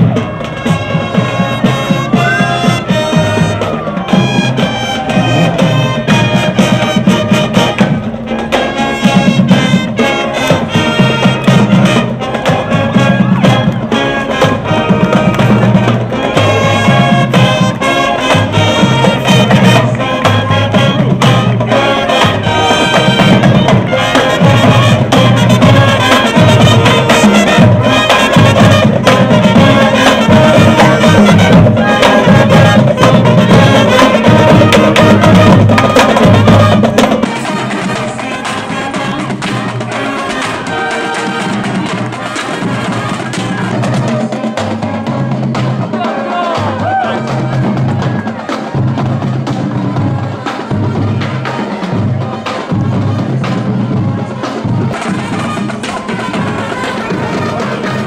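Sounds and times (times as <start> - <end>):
drums steady beat: 0.0 - 58.0
marching band brass tune: 0.0 - 58.0.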